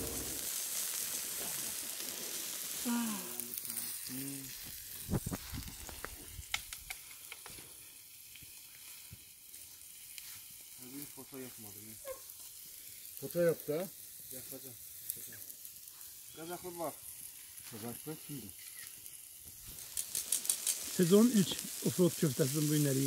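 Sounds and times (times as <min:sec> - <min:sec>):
meat sizzling on a grill: 0:00.0 - 0:23.0.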